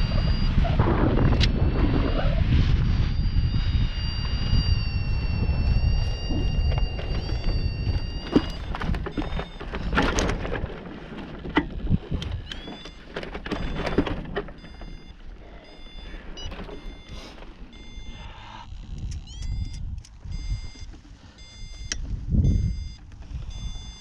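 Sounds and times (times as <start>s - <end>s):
short high-pitched beeps: 0.0s - 10.3s, 12.4s - 24.0s
wind buffeting microphone: 0.0s - 24.0s.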